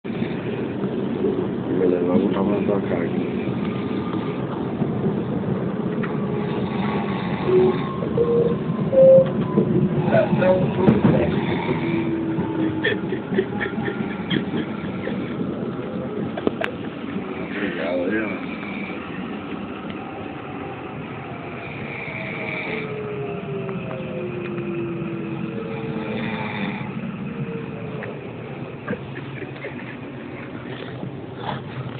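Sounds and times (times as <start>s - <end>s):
train rumble: 0.0s - 31.9s.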